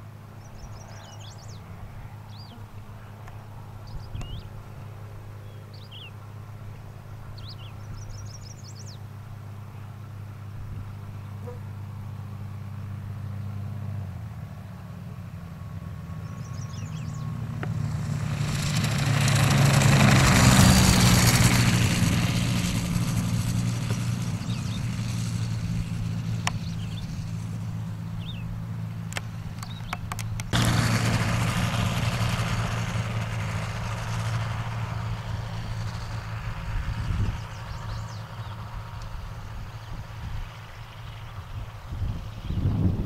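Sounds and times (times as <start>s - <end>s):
propeller aircraft engine droning: 0.0s - 43.0s.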